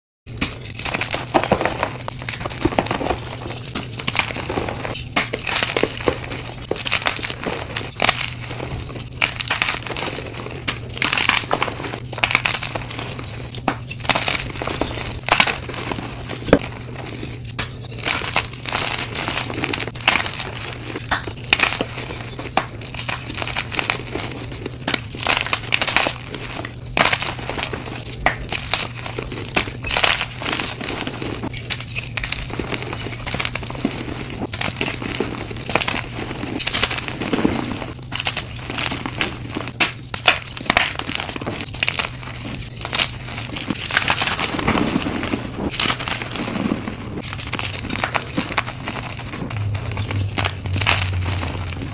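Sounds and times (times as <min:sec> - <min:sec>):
chalk snapping and crumbling: 0:00.3 - 0:51.9.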